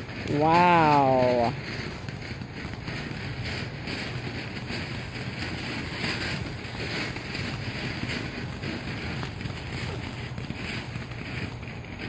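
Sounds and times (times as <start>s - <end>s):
firework spraying sparks hissing: 0.0s - 12.0s.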